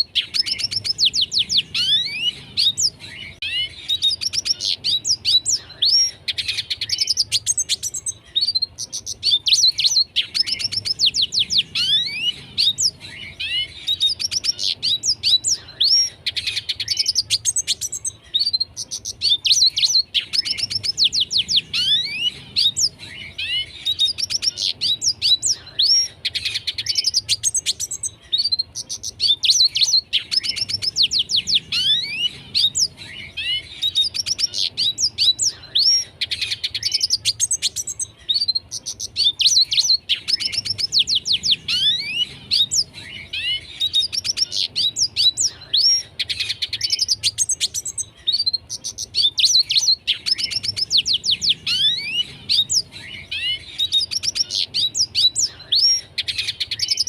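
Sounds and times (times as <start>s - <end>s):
bird singing high twittering song: 0.0s - 57.0s.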